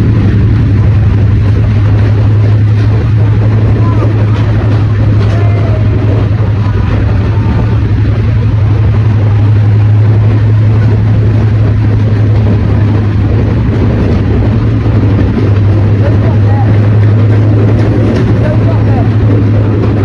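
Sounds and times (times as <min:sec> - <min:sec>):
diesel locomotive engine idling: 0:00.0 - 0:20.0.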